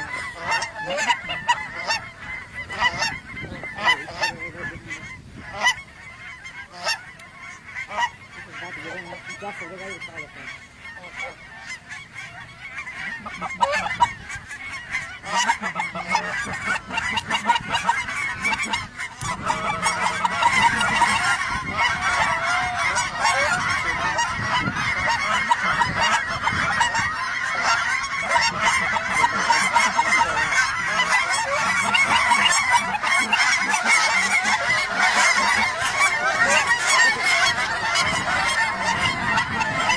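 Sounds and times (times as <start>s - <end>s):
flock of geese honking: 0.0s - 39.9s.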